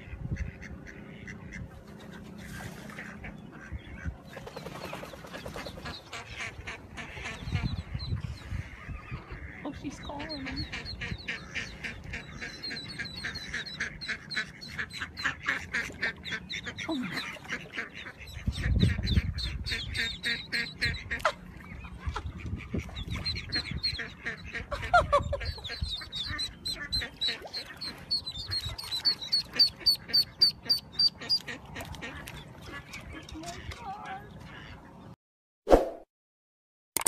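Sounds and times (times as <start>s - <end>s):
ducklings peeping: 0.0s - 35.1s.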